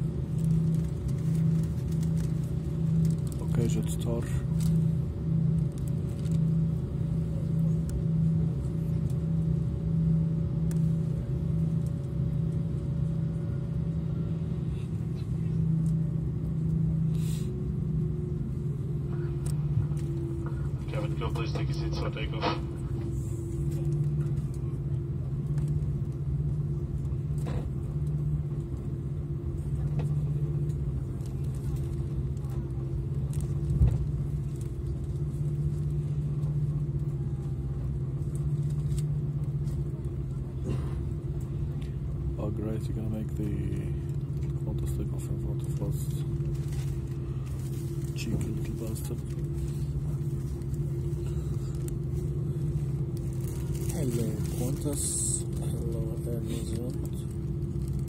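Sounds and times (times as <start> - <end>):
constant low hum: 0.0 - 58.0
jet engines rumbling: 0.0 - 58.0.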